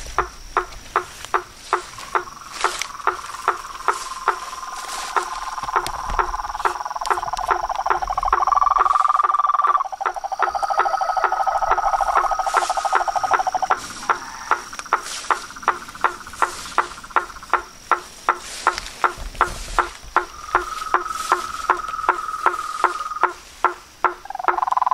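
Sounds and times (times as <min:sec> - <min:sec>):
frog clicking call: 0:00.0 - 0:24.9
high insect tone: 0:00.0 - 0:24.9
frog pulsed trill: 0:01.6 - 0:17.6, 0:20.2 - 0:23.4, 0:24.1 - 0:24.9.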